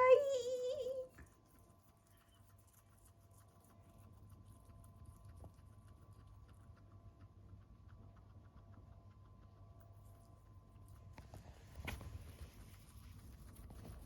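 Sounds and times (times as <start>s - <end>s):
guinea pigs crunching snacks: 0.0s - 14.0s
low steady hum: 0.0s - 14.0s.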